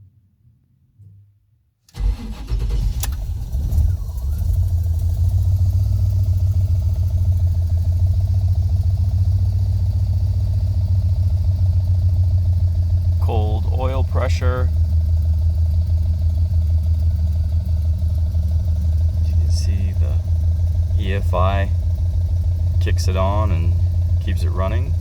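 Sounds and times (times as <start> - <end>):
pickup engine starting and idling: 1.9 - 25.0.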